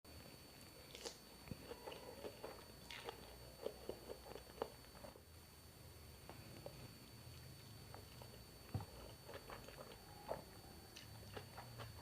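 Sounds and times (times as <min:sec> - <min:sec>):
person chewing food: 0:00.6 - 0:05.3, 0:06.2 - 0:12.0.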